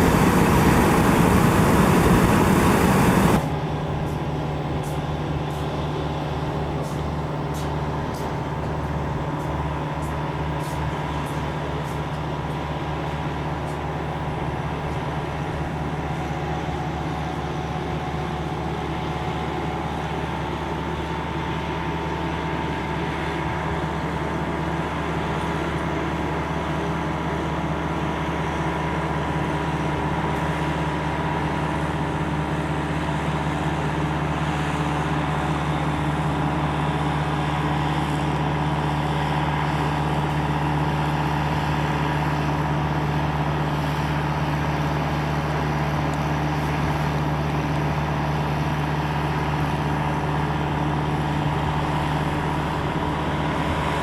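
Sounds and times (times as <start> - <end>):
vehicle road and engine drone: 0.0 - 54.0.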